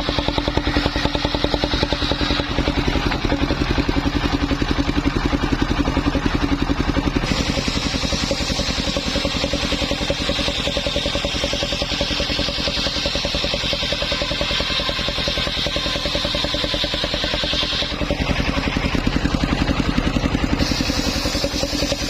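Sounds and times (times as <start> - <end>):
steady high whine: 0.0 - 5.1, 6.6 - 22.0
engine running with pulsing beat: 0.0 - 22.0.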